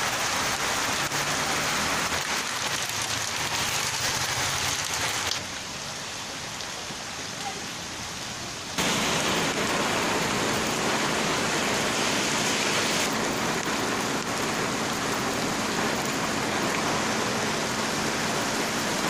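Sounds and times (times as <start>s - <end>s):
heavy rain on wet street: 0.0s - 19.0s.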